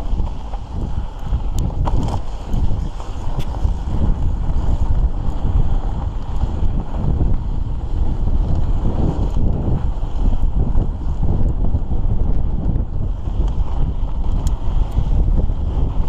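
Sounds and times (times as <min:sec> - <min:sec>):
bike rattling clicks: 0:00.0 - 0:07.5, 0:08.2 - 0:16.0
wind buffeting microphone: 0:00.0 - 0:16.0.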